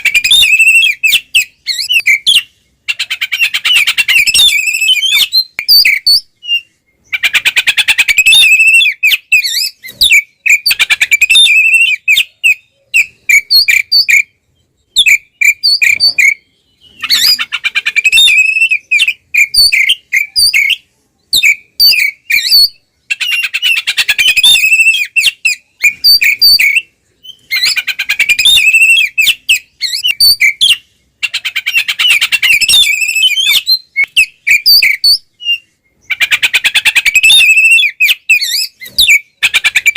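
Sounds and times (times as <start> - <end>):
bird singing harsh stuttering song: 0.0 - 39.9.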